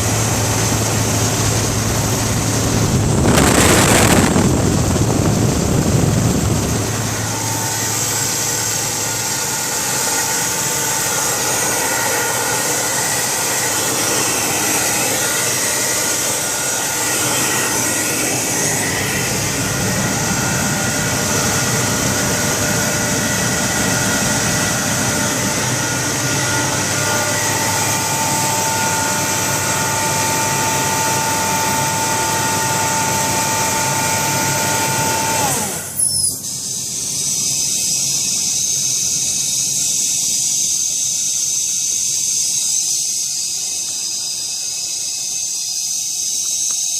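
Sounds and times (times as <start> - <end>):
air compressor droning: 0.0 - 46.9
high whine: 0.0 - 46.9.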